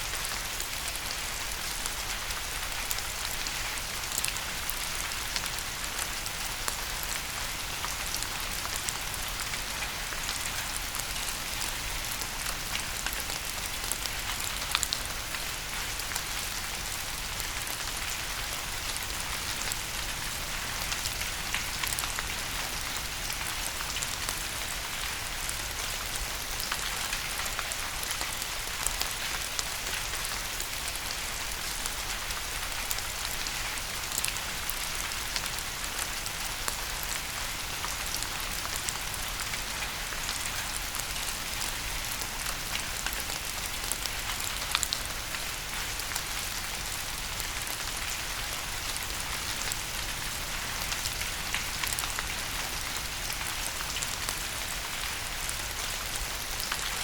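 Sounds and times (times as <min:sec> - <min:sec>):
rain drops ticking on a surface: 0:00.0 - 0:57.0.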